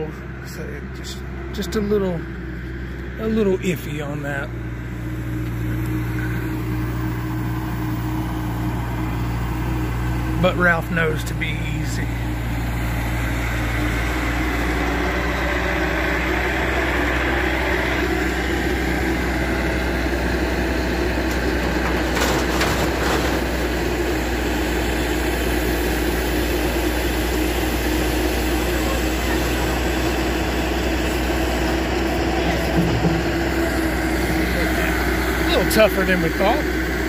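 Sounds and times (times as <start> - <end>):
loader engine running: 0.0 - 37.0.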